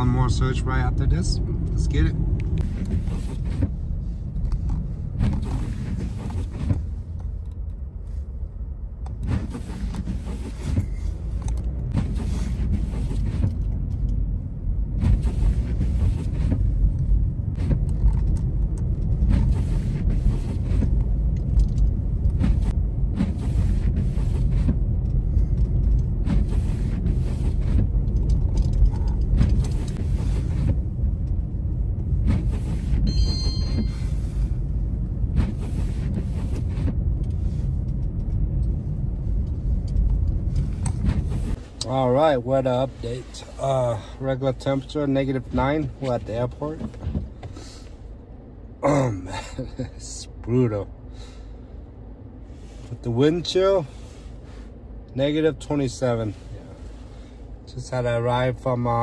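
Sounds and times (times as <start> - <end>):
car engine and tyres rumble: 0.0 - 59.0.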